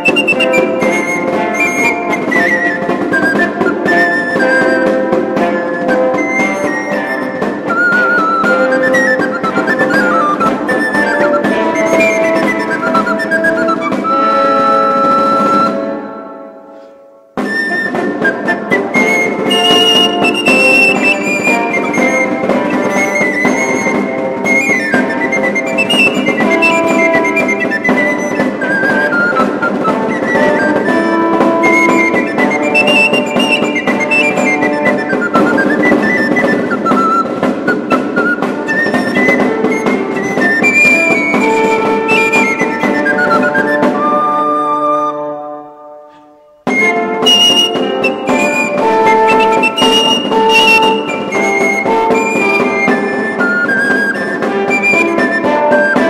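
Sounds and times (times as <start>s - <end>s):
early instrumental music: 0.0s - 56.0s
flute melody: 0.0s - 56.0s.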